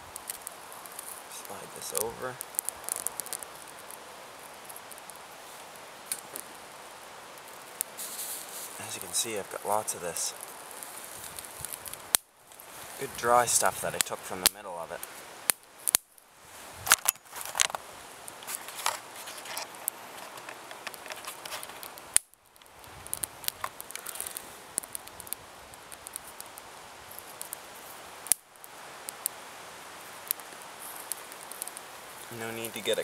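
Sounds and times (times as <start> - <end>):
fire crackling and snapping: 0.0 - 33.0
light rain hissing: 0.0 - 33.0.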